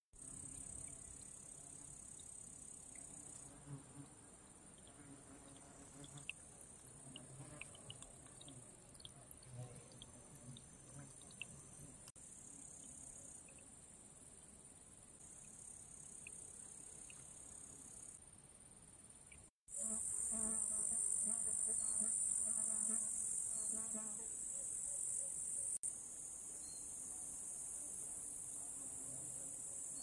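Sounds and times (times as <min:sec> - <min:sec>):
insects chirring: 0:00.2 - 0:04.1, 0:04.7 - 0:30.0.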